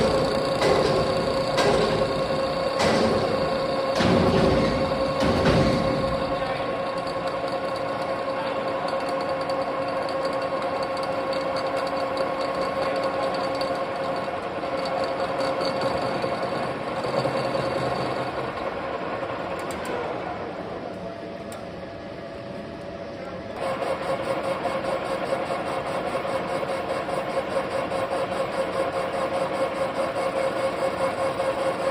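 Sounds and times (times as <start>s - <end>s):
metal lathe running: 0.0s - 21.4s, 23.6s - 31.9s.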